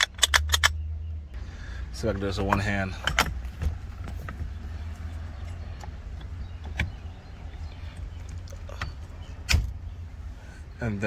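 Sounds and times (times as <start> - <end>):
steering wheel parts clicking: 0.0 - 0.8, 1.9 - 10.1
steady low hum: 0.6 - 11.0.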